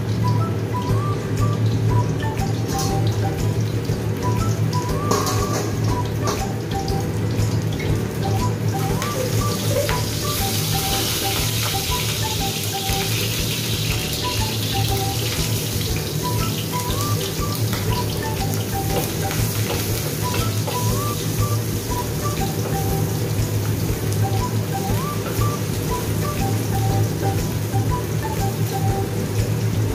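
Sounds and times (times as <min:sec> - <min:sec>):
oil sizzling in a wok: 0:00.0 - 0:29.9
soft background music: 0:00.0 - 0:29.9.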